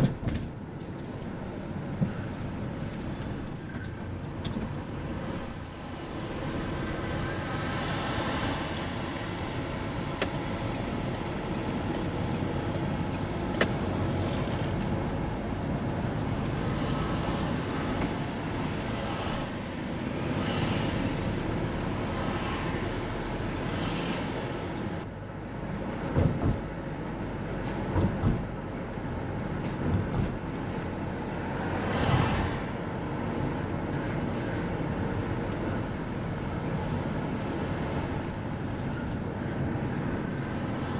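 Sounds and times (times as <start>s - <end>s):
car road and engine noise: 0.0s - 40.9s
vehicles swishing past: 1.6s - 25.1s, 29.3s - 40.9s.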